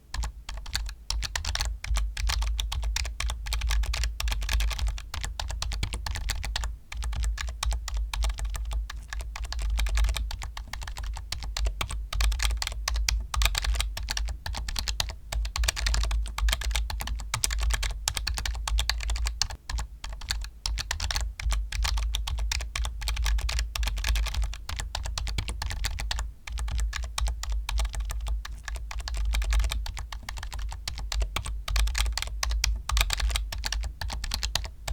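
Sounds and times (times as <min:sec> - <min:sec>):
steady low hum: 0:00.0 - 0:34.9
fast typing on computer keyboard: 0:00.1 - 0:34.9.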